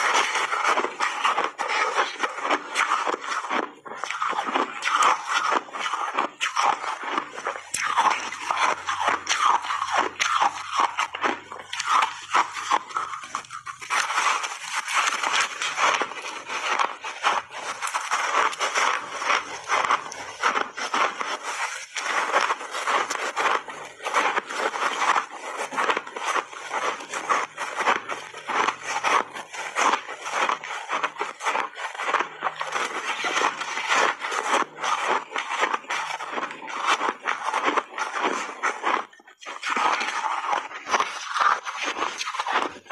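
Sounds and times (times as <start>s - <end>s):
teeth crunching ice: 0.0s - 42.9s.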